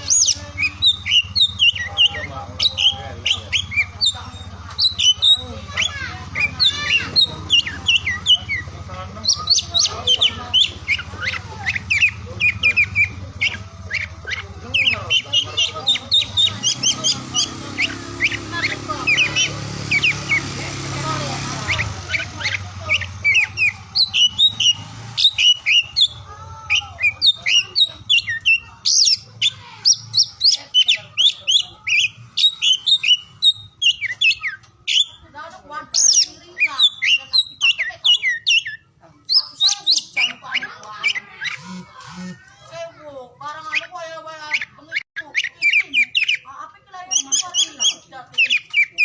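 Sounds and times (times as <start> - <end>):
bird singing whistled notes: 0.0 - 42.5, 43.5 - 49.0.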